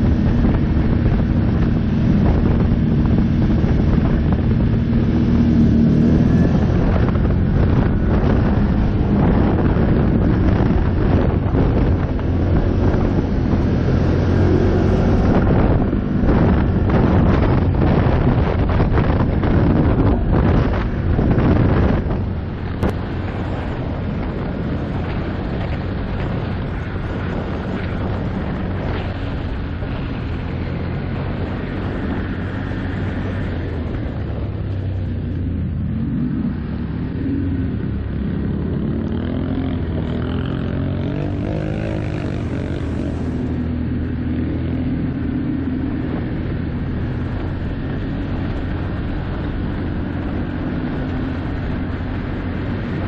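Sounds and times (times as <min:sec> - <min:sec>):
quad engine running: 0:00.0 - 0:53.0
wind buffeting microphone: 0:00.0 - 0:53.0.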